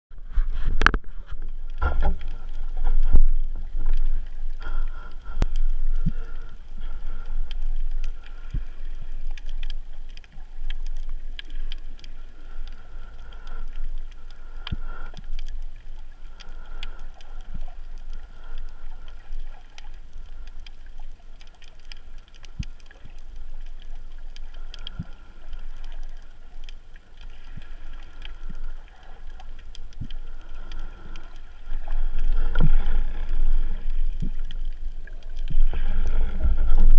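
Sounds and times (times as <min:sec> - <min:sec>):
muffled underwater rumble: 0:00.1 - 0:36.9
sharp clicks and crackles: 0:00.2 - 0:36.9.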